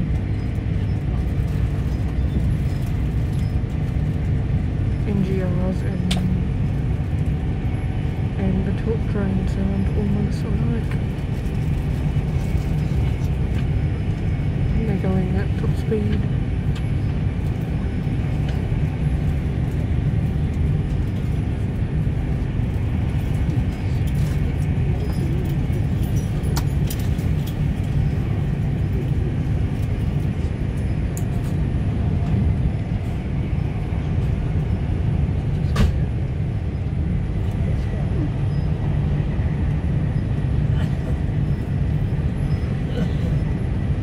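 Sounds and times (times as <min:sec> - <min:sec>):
train low rumble: 0:00.0 - 0:44.0.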